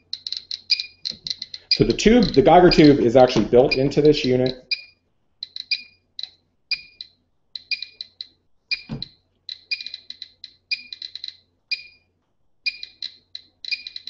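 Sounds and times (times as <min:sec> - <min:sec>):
geiger counter beeping: 0:00.0 - 0:14.0.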